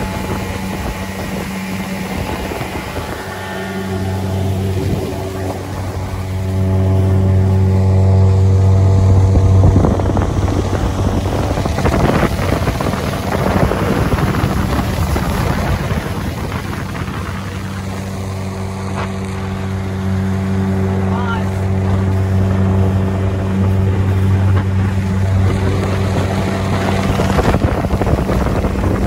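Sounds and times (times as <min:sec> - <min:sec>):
rush of wind and water: 0:00.0 - 0:29.0
speedboat engine running: 0:00.0 - 0:29.0.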